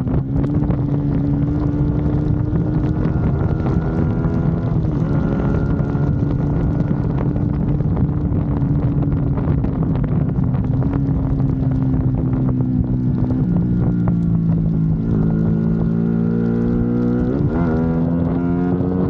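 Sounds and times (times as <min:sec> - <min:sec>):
motorcycle engine cruising: 0:00.0 - 0:19.0
wind buffeting microphone: 0:00.0 - 0:19.0.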